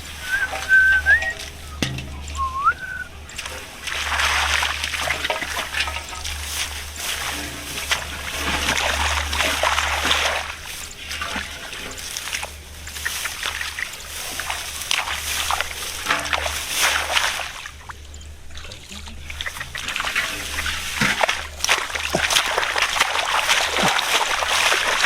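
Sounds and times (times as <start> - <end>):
splashing in muddy water: 0.0 - 25.0.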